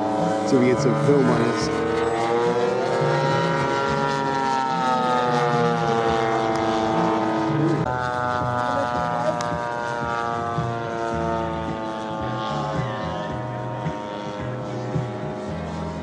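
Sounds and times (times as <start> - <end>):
model airplane engine and propeller: 0.0 - 16.0.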